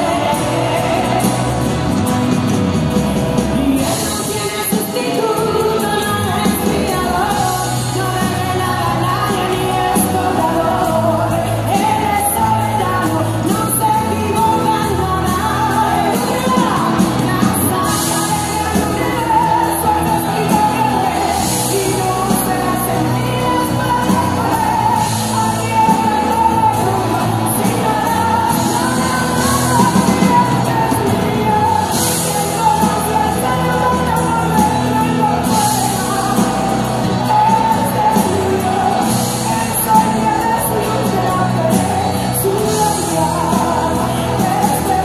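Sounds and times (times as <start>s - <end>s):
live band accompaniment: 0.0s - 45.0s
woman singing into microphone: 0.0s - 45.0s.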